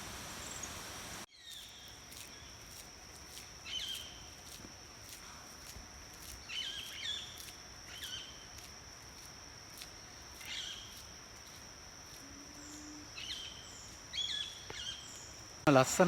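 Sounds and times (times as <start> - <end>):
high-pitched insect drone: 1.4 - 16.0.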